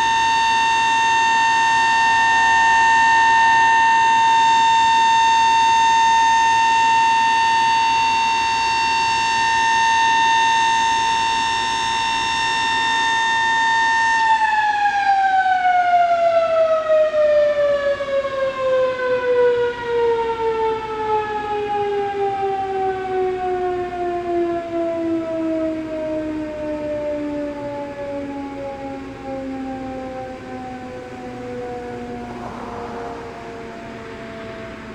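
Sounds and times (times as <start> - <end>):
warning siren winding down: 0.0 - 34.9.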